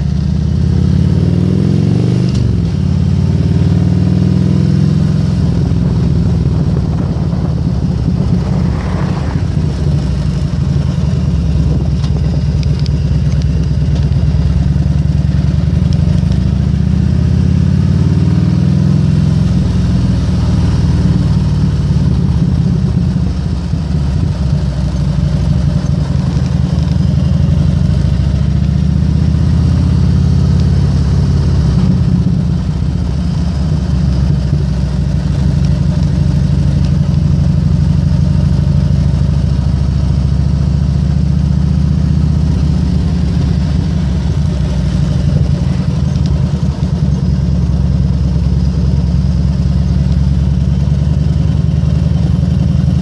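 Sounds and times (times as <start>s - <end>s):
motorcycle engine rumbling: 0.0s - 53.0s.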